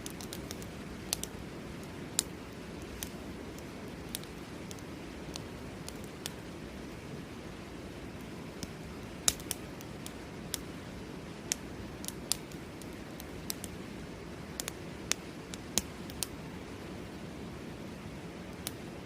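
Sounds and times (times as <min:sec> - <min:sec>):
campfire wood crackling: 0:00.0 - 0:19.0.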